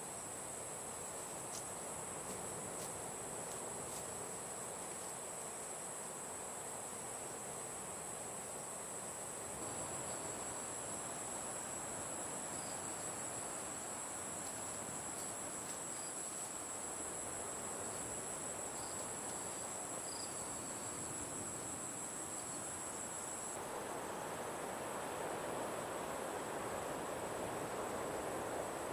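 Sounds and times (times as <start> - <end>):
insects trilling: 0.0 - 28.9
soft even hiss: 0.0 - 28.9.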